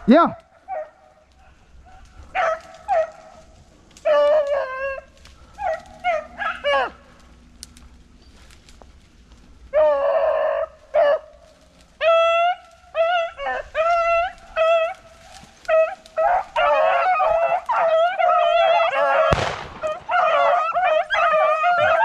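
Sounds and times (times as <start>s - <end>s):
hounds baying: 0.1s - 22.0s.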